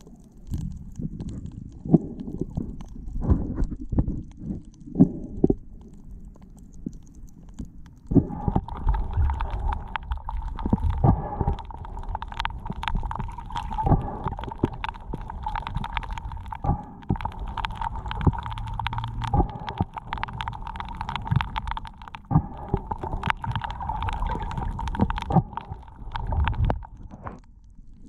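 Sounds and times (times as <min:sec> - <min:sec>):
knocks and clicks underwater: 0:00.0 - 0:28.0
underwater rumbling water movement: 0:00.0 - 0:28.0.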